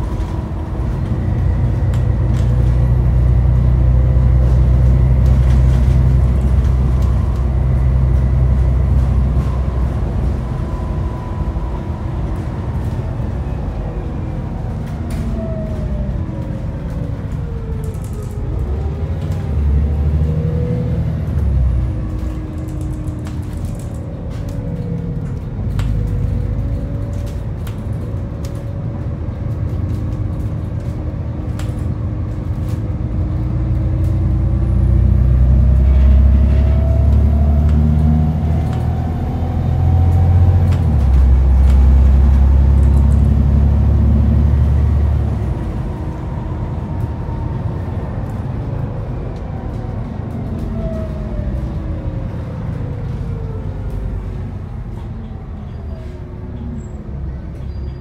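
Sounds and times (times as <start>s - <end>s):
bus diesel engine rumble: 0.0s - 58.0s
engine whine: 0.0s - 58.0s.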